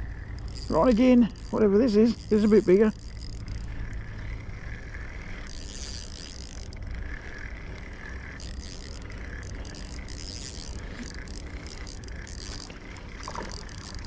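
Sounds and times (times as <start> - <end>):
fishing reel winding: 0.0 - 14.0.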